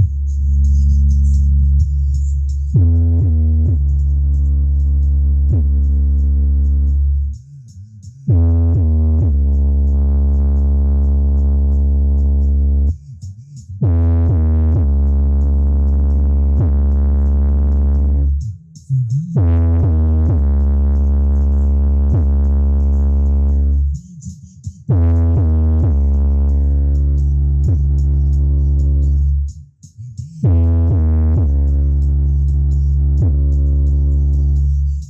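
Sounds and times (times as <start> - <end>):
electronic music with deep bass: 0.0 - 35.0.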